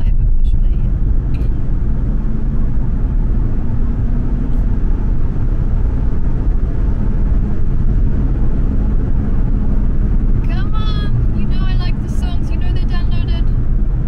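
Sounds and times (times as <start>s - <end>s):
car tyre and engine rumble: 0.0s - 14.0s.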